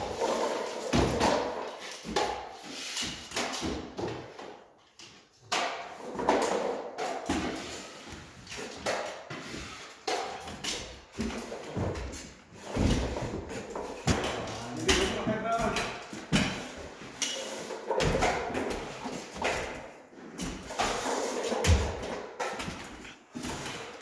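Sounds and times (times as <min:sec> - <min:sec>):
drywall taper knocking and scraping: 0:00.0 - 0:24.0
stilts clacking on concrete floor: 0:00.0 - 0:24.0.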